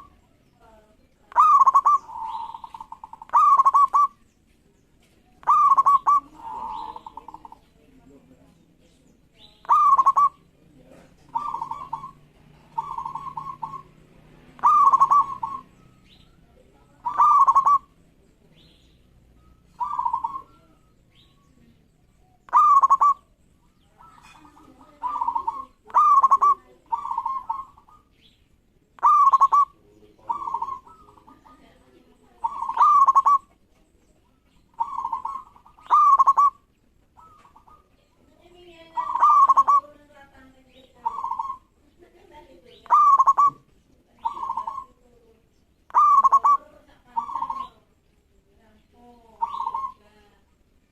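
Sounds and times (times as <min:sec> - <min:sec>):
dove cooing: 0:00.0 - 0:04.3, 0:05.3 - 0:08.3, 0:09.4 - 0:50.4.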